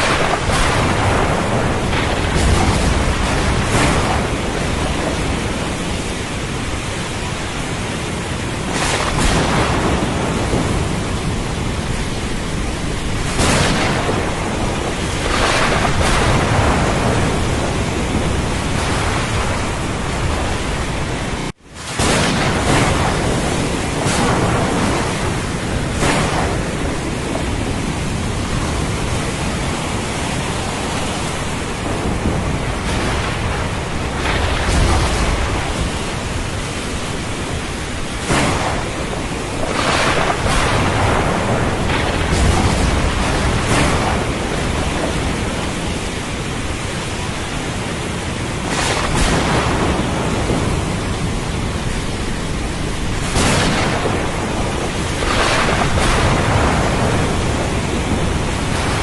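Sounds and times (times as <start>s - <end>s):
steady rain: 0.0s - 59.0s
surf: 0.0s - 59.0s
thunder rumbling: 0.0s - 59.0s.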